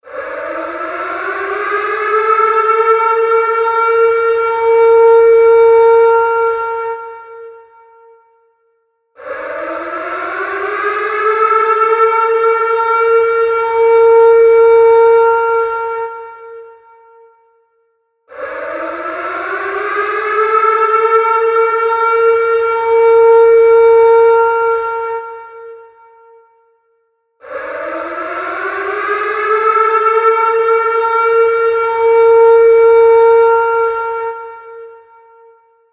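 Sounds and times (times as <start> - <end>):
warning siren: 0.0 - 8.6, 9.2 - 17.6, 18.3 - 26.8, 27.4 - 35.9.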